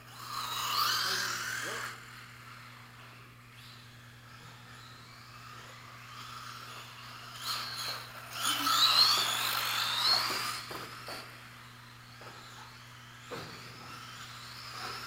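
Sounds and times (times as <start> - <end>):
electric toy car motor whining: 0.0 - 15.0.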